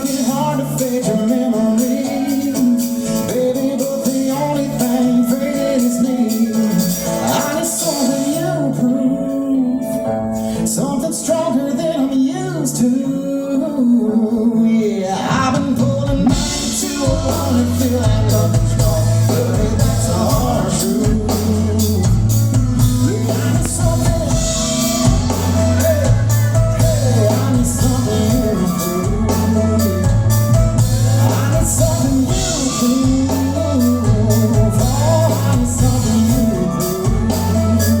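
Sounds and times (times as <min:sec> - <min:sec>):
country-rock band playing: 0:00.0 - 0:38.0
person singing: 0:00.0 - 0:38.0.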